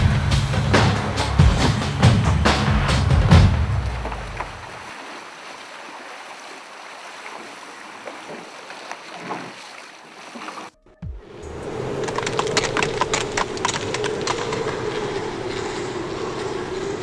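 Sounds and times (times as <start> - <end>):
water and wind rushing: 0.0 - 17.0.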